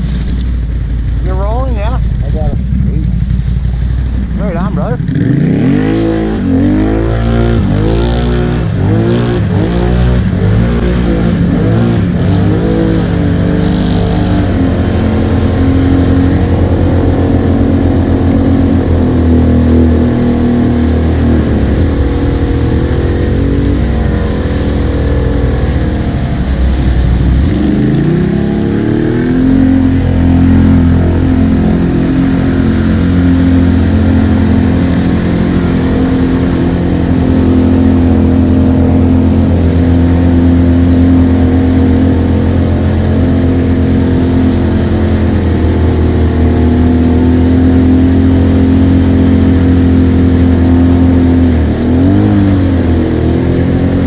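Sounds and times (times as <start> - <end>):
quad bike engine revving: 0.0 - 54.0
water churning and splashing: 0.0 - 54.0.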